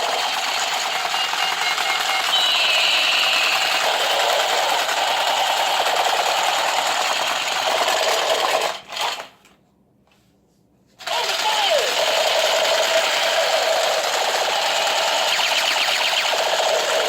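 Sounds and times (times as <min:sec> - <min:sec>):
electronic shooting sound: 0:00.0 - 0:09.2, 0:11.0 - 0:17.0
toy gun mechanical rattle: 0:00.0 - 0:09.3, 0:11.0 - 0:17.0.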